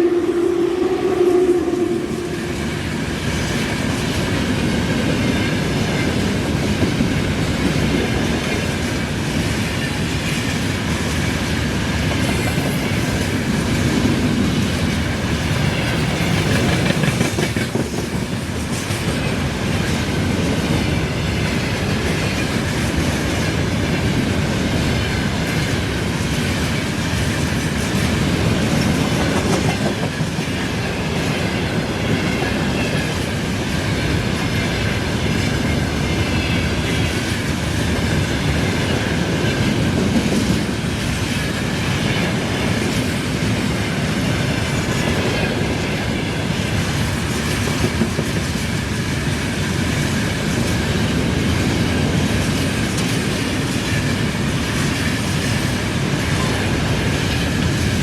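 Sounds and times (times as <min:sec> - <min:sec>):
train wheels clickety-clack: 0:02.1 - 0:58.0.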